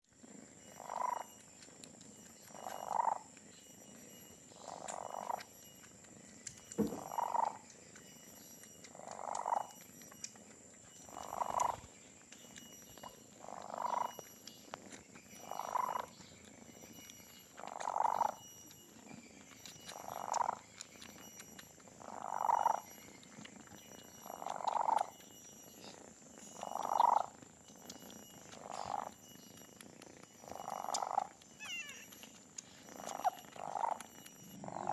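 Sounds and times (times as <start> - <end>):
kitten purring loudly: 0.0 - 3.3, 9.0 - 34.9.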